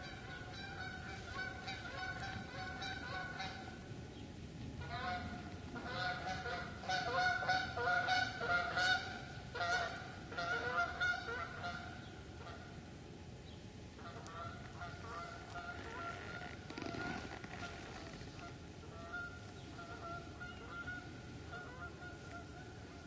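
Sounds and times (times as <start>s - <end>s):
geese honking: 0.0s - 3.8s, 4.8s - 12.6s, 14.0s - 16.8s, 18.3s - 23.0s.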